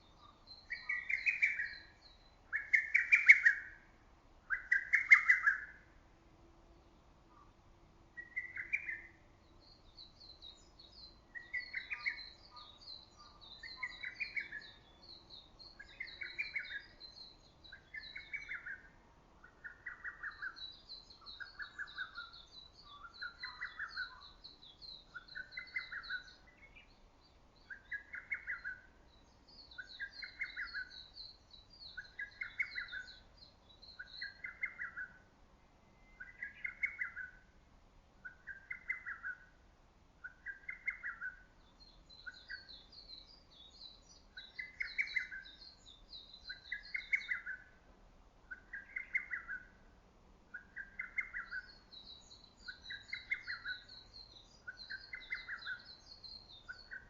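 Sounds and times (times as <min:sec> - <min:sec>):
small bird twittering: 0:00.0 - 0:03.9, 0:04.5 - 0:05.9, 0:08.2 - 0:35.3, 0:35.9 - 0:37.5, 0:38.2 - 0:39.5, 0:40.2 - 0:47.8, 0:48.5 - 0:49.8, 0:50.5 - 0:57.0.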